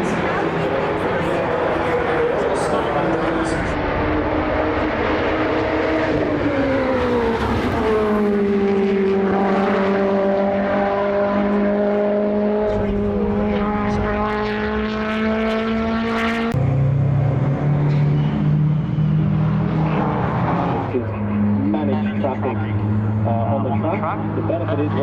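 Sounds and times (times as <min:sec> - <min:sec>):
race car engine running hard: 0:00.0 - 0:25.0.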